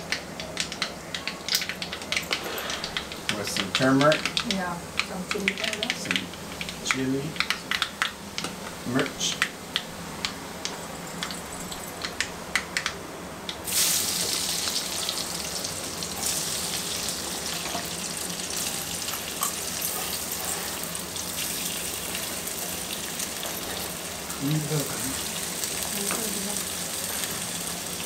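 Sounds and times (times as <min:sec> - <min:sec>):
potatoes sizzling in hot oil: 0:00.0 - 0:09.6, 0:13.6 - 0:28.0.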